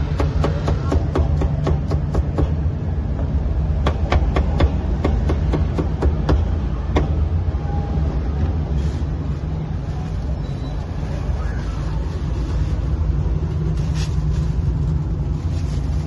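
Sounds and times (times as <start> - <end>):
steady low rumble: 2.4 - 16.0.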